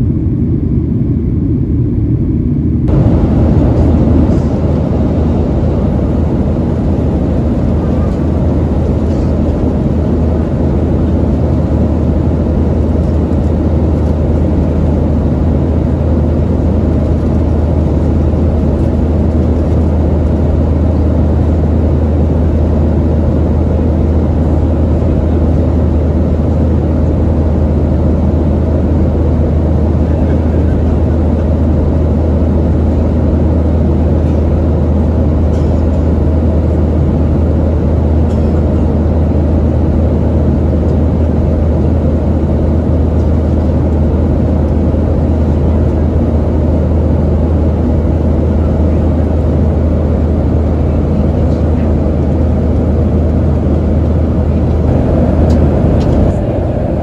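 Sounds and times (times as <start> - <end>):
airplane cabin engine drone: 0.0 - 57.0.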